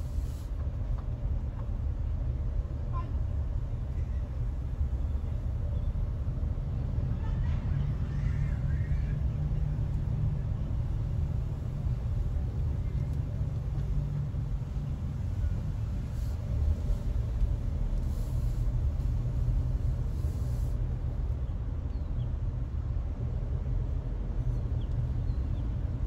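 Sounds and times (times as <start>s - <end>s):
car driving rumble: 0.0s - 26.0s.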